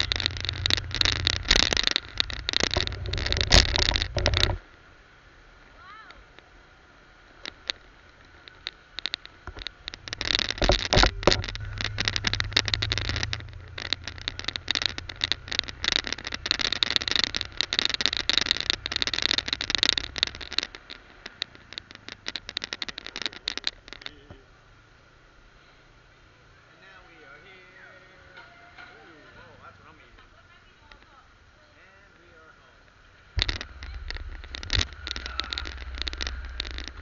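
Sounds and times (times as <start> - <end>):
scooter engine rumble: 0.0 - 26.8, 32.9 - 37.0
crackling wind noise: 0.0 - 37.0.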